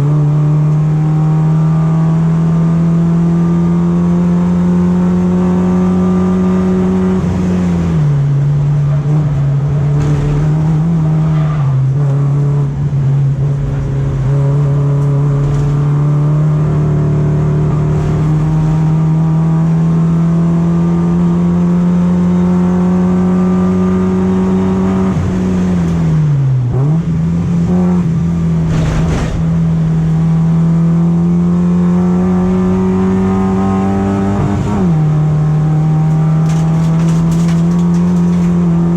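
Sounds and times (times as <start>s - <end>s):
race car engine under load: 0.0s - 38.9s.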